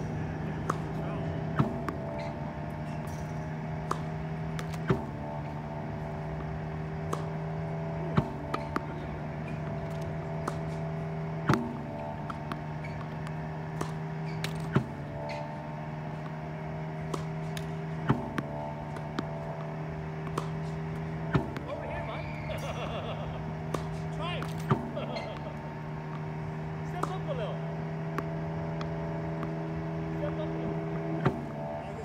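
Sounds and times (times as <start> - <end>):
ball machine motor hum: 0.0 - 32.0
balls bouncing and being hit: 0.0 - 32.0.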